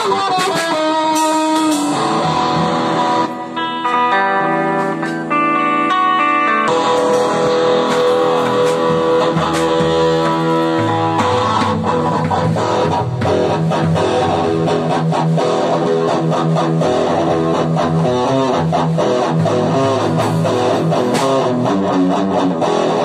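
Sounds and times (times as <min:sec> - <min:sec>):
electric guitar riff: 0:00.0 - 0:23.0.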